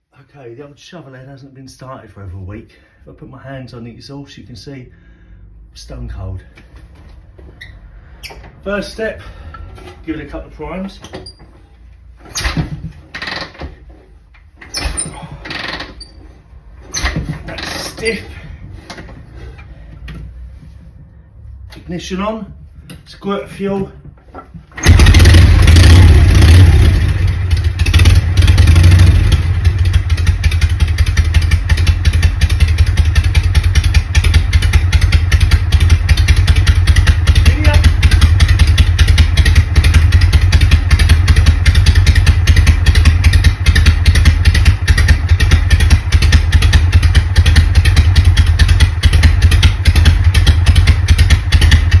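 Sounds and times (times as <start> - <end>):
motorcycle engine starting and idling: 5.6 - 22.1, 24.5 - 52.0.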